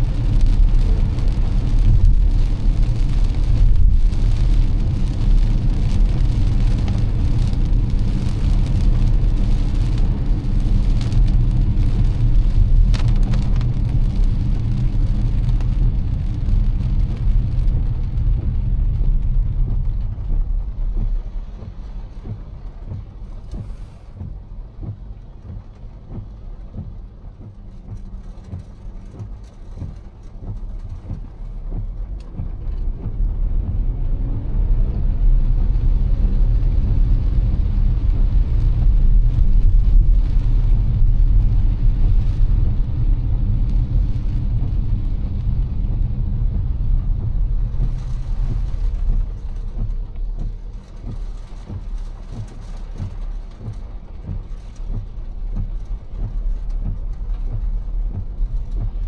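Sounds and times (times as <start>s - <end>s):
rain hitting car: 0.0s - 59.0s
road and engine rumble: 0.0s - 59.0s.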